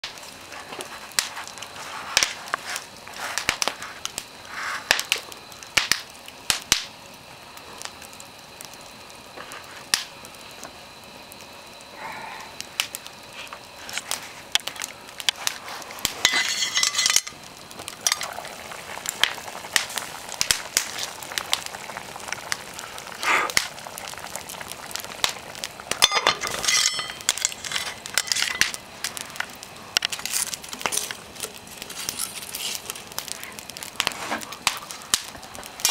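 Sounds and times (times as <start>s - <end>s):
wood fire crackling and popping: 0.0s - 35.9s.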